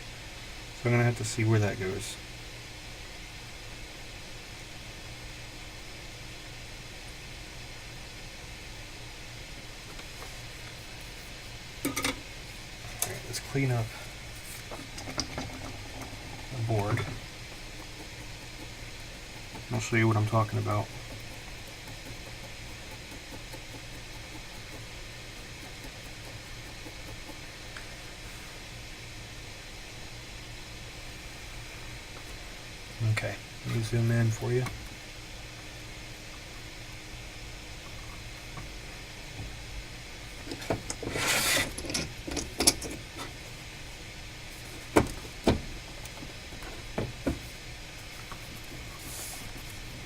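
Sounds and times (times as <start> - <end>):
steady hiss: 0.0 - 50.0
steady low hum: 0.0 - 50.0.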